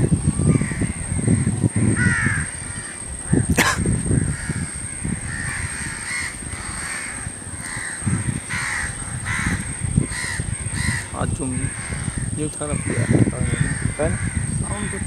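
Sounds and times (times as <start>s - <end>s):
crows cawing: 0.3s - 15.0s.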